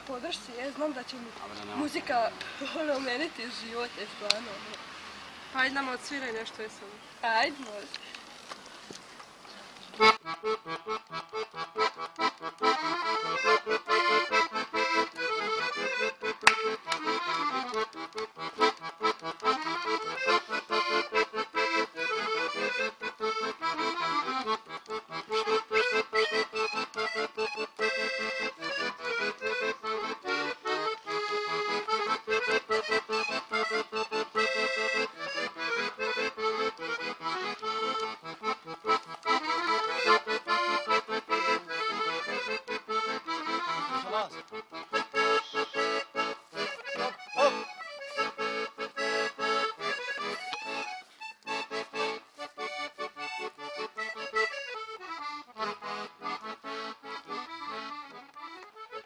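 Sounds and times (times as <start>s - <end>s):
piano accordion playing: 0.0s - 4.8s, 10.0s - 59.0s.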